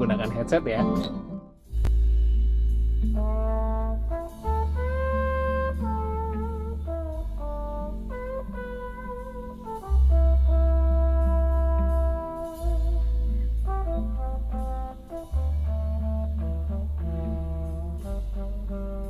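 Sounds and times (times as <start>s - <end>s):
brass-like melody: 0.0s - 19.0s
deep bass notes: 0.0s - 19.0s
jazzy instrumental music: 0.0s - 19.0s.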